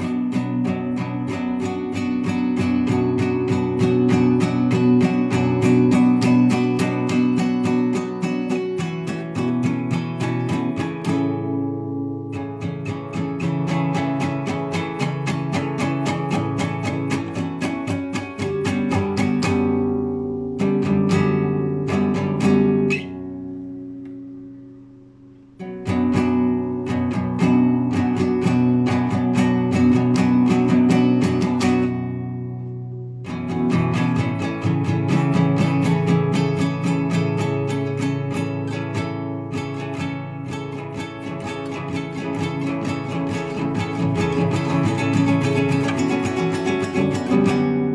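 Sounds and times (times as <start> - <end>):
classical guitar arpeggios: 0.0 - 47.9.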